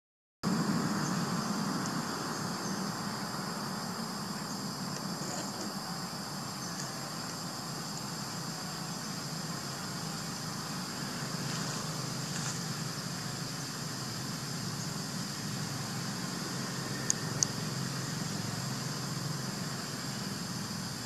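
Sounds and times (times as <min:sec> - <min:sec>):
insects droning: 0:00.4 - 0:21.0.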